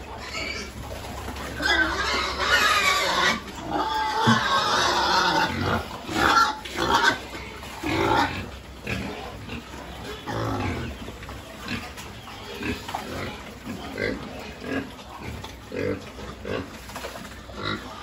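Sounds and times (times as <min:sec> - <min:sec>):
pigs grunting: 0:00.0 - 0:18.0.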